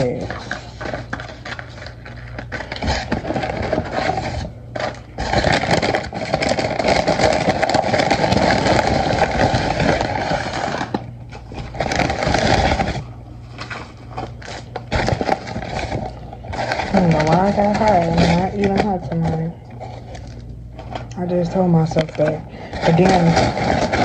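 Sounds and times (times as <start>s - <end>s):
paper food wrappers crinkling: 0.0s - 24.0s.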